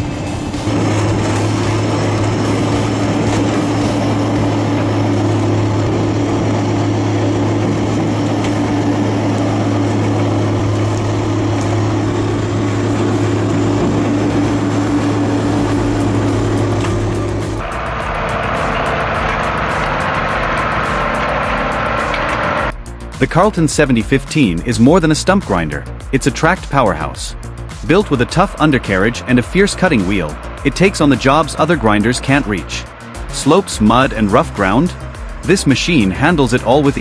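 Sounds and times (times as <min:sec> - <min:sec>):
heavy machine engine drone: 0:00.0 - 0:37.0.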